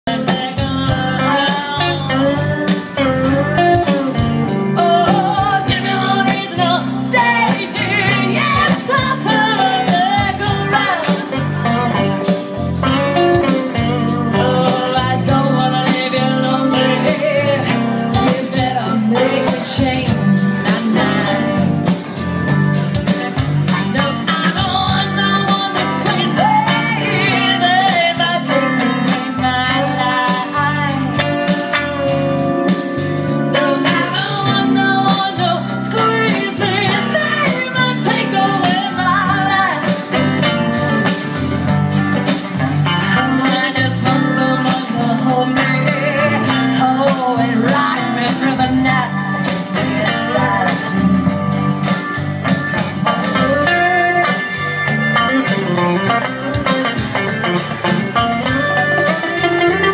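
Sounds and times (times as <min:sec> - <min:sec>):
electric guitar lead lines: 0:00.0 - 0:59.9
woman singing: 0:00.1 - 0:12.0, 0:12.8 - 0:22.0, 0:23.7 - 0:31.8, 0:33.5 - 0:41.2, 0:43.0 - 0:51.4, 0:53.2 - 0:54.6, 0:58.3 - 0:59.9.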